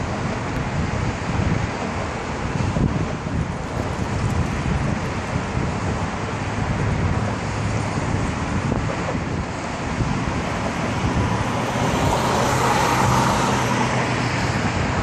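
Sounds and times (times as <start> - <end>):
road traffic noise: 0.0 - 15.0
wind buffeting microphone: 0.0 - 15.0.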